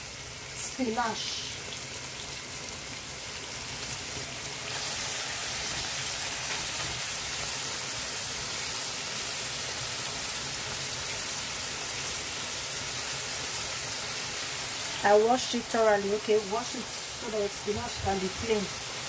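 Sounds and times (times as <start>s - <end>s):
vegetables sizzling in a pot: 0.0s - 19.0s.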